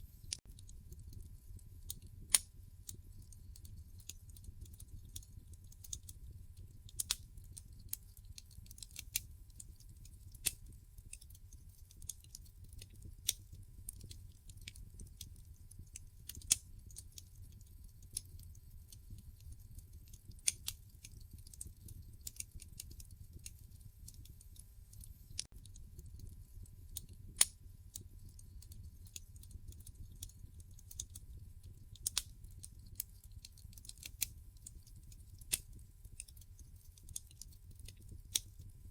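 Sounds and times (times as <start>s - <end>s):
wood fire crackling in fireplace: 0.0s - 38.9s.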